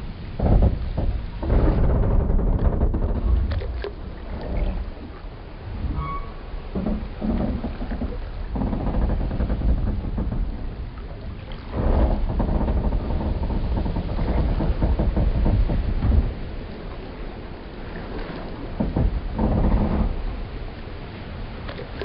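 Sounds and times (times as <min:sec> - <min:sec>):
water lapping: 0:00.0 - 0:22.0
wooden boats creaking: 0:00.0 - 0:22.0.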